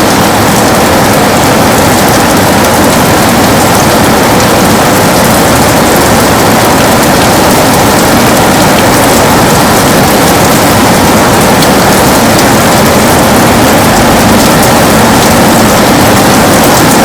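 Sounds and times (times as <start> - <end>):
heavy rain on a window: 0.0 - 17.0.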